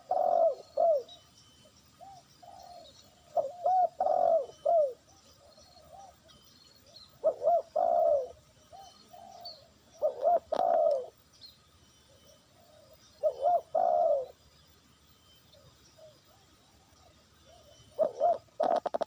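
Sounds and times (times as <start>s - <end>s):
dove cooing: 0.0s - 1.2s, 2.0s - 11.2s, 12.1s - 14.4s, 15.6s - 19.0s
small birds chirping: 0.0s - 19.0s.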